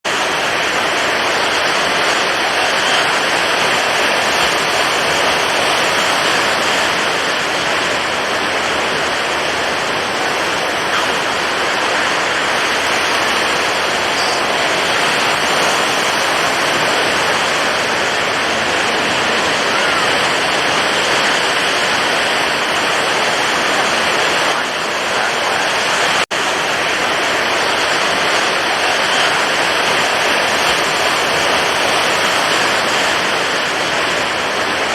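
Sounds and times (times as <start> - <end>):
stormy ocean surf: 0.0 - 34.9.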